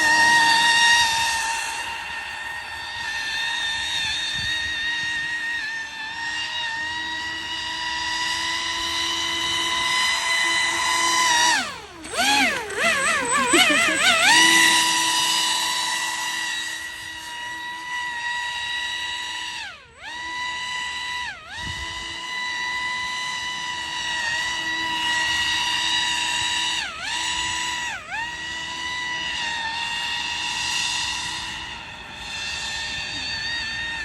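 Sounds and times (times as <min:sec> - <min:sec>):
rc airboat motor whining: 0:00.0 - 0:34.0.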